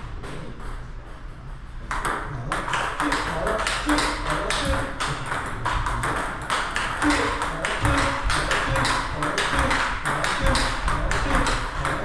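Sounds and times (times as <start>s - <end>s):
table tennis ball clicks: 1.9s - 12.0s.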